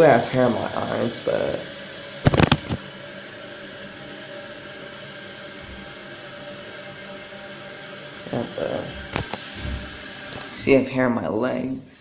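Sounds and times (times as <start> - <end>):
toilet tank refilling hiss: 0.0 - 10.9.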